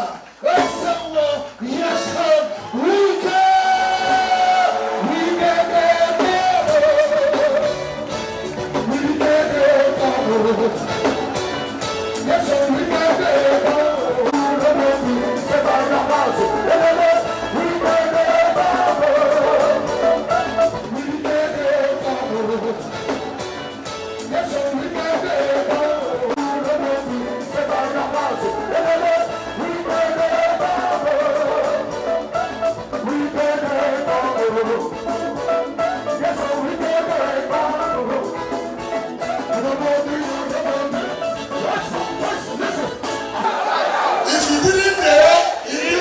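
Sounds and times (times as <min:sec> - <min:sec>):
music with singing and beat: 0:00.0 - 0:43.4, 0:44.2 - 0:46.0.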